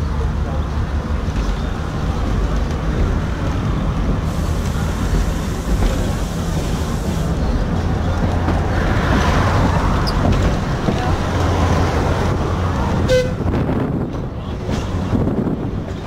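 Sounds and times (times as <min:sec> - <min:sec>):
second tram approaching: 0:00.0 - 0:16.0
tram wheels rumbling on rail: 0:00.0 - 0:16.0.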